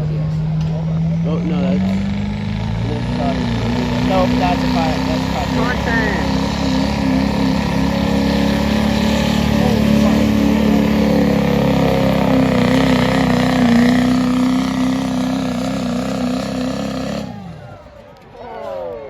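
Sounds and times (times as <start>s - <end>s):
truck engine revving high: 0.0s - 18.1s.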